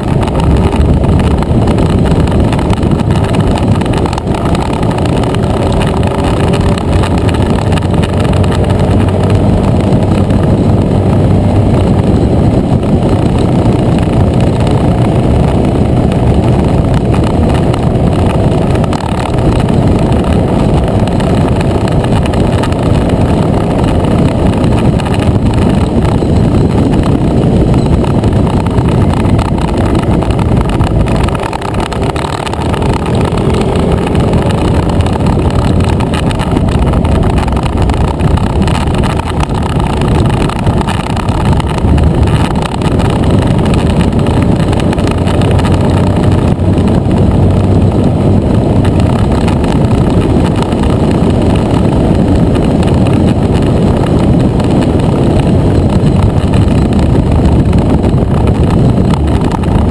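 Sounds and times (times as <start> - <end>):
scooter engine running: 0.0 - 59.9
wind rushing over microphone: 0.0 - 59.9.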